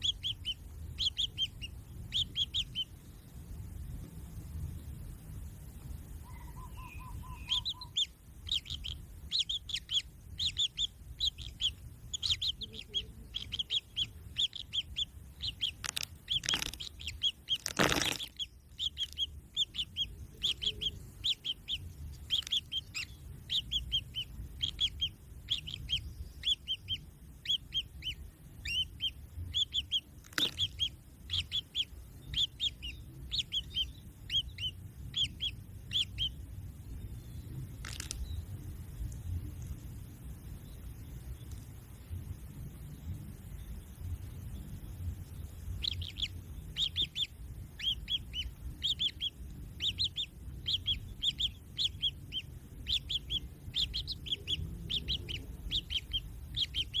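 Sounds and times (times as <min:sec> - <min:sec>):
bird chicks chirping: 0:00.0 - 0:04.4, 0:06.2 - 0:57.0.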